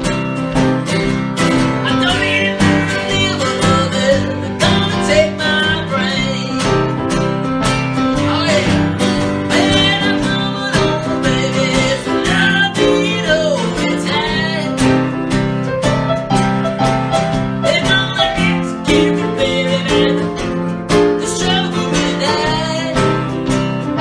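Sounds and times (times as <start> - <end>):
acoustic guitar strumming: 0.0 - 24.0
piano playing blues: 0.0 - 24.0.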